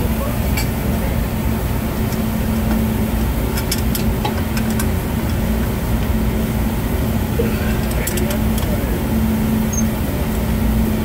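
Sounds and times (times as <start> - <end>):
mechanical hum of equipment: 0.0 - 11.0.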